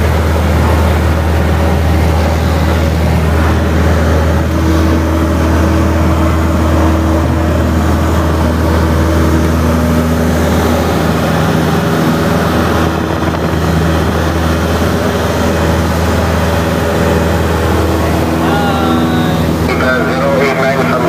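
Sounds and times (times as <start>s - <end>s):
propeller airplane engine: 0.0s - 21.0s.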